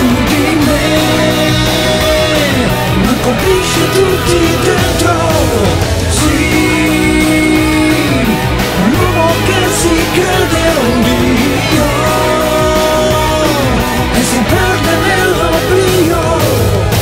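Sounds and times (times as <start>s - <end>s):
drum beat: 0.0s - 17.0s
electric guitar bending notes: 0.0s - 17.0s
person singing: 0.0s - 17.0s.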